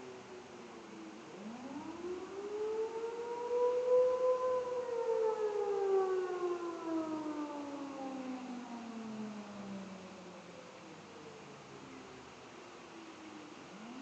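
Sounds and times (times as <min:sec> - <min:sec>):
tornado siren wailing: 0:00.0 - 0:14.0.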